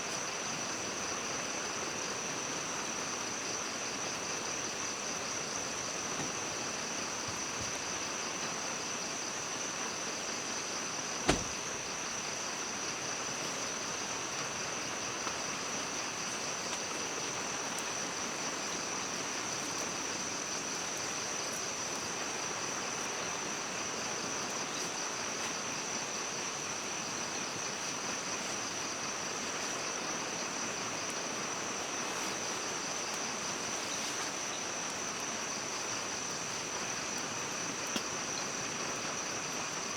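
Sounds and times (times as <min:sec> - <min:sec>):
hiss like running water: 0:00.0 - 0:39.9
high-pitched insect chorus: 0:00.2 - 0:39.9.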